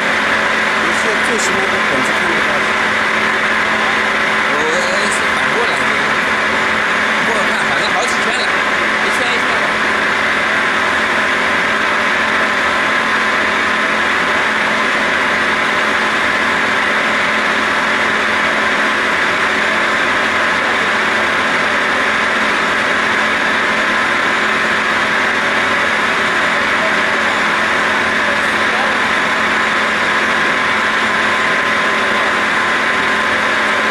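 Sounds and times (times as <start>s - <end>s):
lathe cutting metal: 0.0s - 33.9s.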